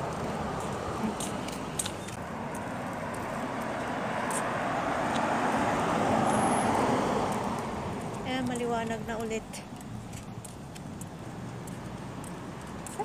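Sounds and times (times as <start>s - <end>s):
car passing: 0.0s - 13.0s.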